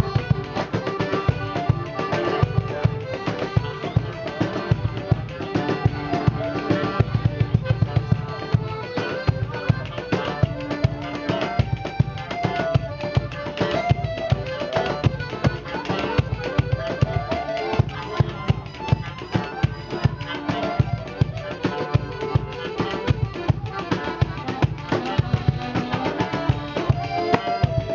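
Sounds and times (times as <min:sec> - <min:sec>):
fast busy drumming: 0:00.0 - 0:27.9
live band playing: 0:00.0 - 0:27.9.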